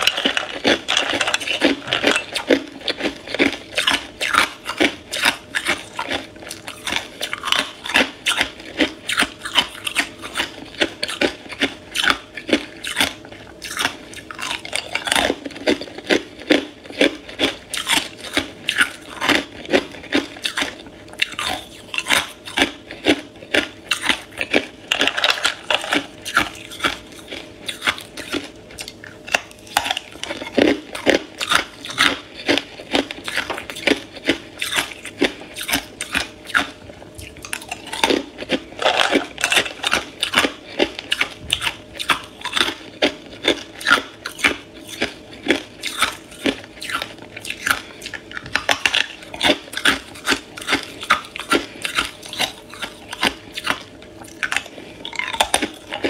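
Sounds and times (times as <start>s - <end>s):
ice crunched between teeth: 0.0s - 56.0s.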